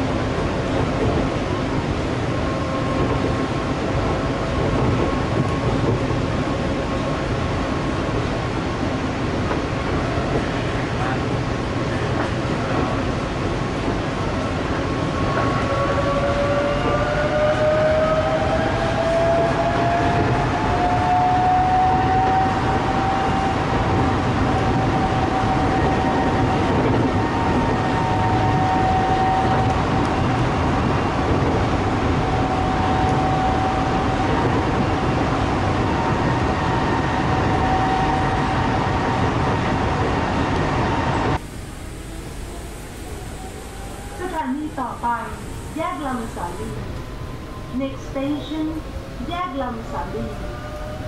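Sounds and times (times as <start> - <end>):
monorail train rumble and whine: 0.0 - 51.0.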